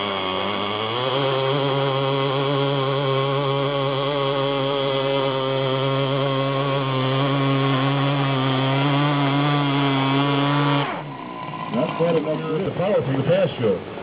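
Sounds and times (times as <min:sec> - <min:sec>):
small engine at high revs: 0:00.0 - 0:12.3.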